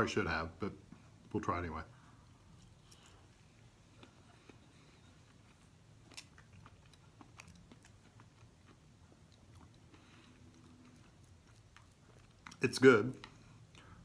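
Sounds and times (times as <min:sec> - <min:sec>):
person chewing food: 0:02.1 - 0:14.0.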